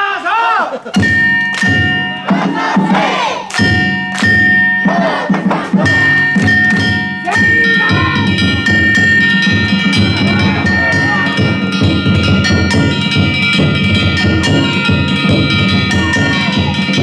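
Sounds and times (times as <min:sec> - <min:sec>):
crowd shouting together: 0:00.0 - 0:12.9, 0:14.0 - 0:17.0
drum beating: 0:00.8 - 0:17.0
gongs ringing: 0:01.0 - 0:17.0.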